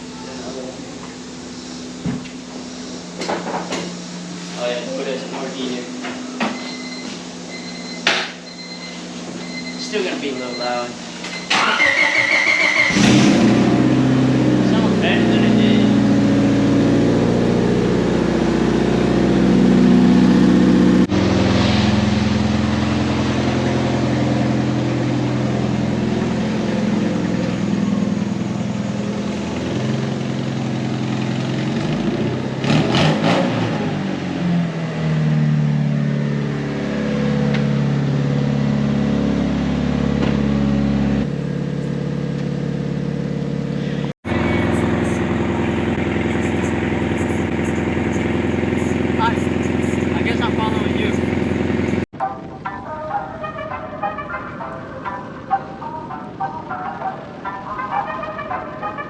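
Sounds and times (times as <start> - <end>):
car engine and exhaust drone: 0.0 - 59.0.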